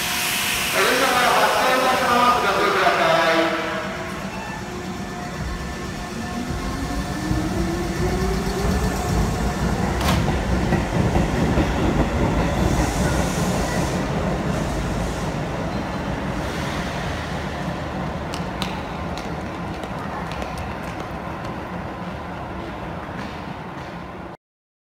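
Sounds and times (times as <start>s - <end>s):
train wheels rumbling on rails: 0.0s - 24.4s.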